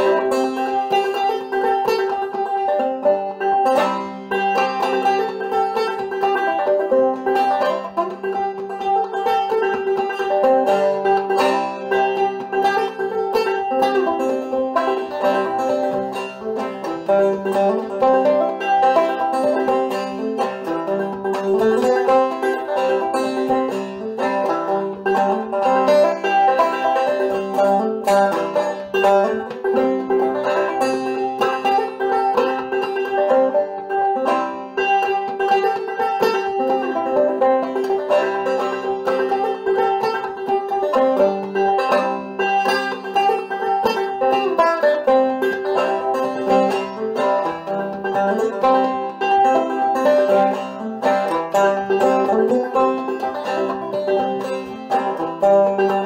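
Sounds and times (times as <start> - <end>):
banjo playing: 0.0 - 56.0.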